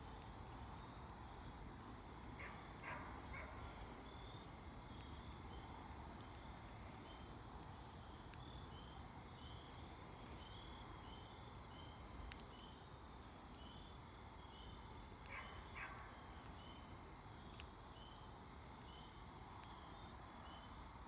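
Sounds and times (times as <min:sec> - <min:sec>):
campfire crackling: 0:00.0 - 0:21.0
rustle: 0:00.0 - 0:21.0.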